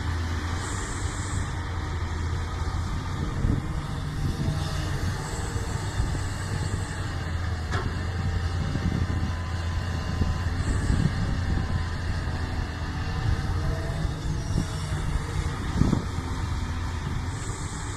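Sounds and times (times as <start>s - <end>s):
excavator diesel engine running: 0.0s - 17.9s.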